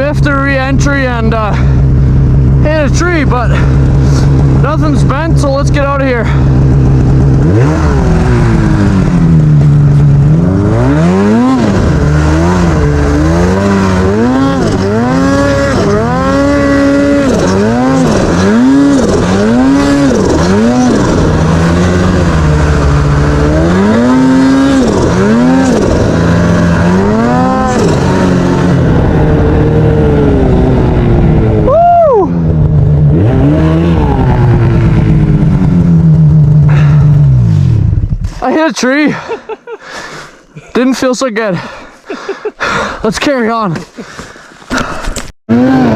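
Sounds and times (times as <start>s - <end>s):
snowmobile engine revving: 0.0s - 43.8s, 45.5s - 45.9s.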